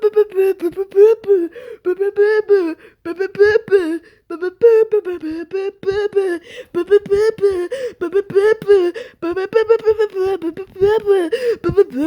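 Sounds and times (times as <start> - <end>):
high voice singing nonsense syllables: 0.0 - 12.0.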